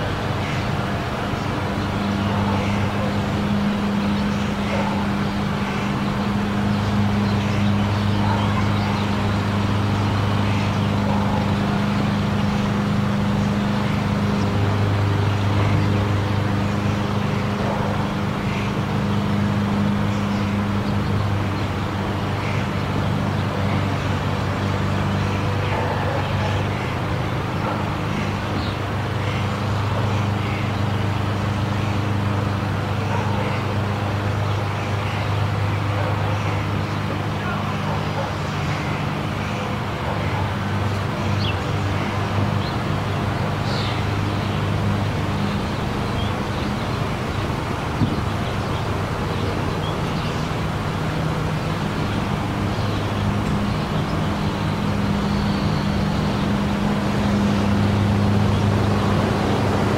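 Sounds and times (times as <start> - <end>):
monorail car humming on rail: 0.0 - 59.9.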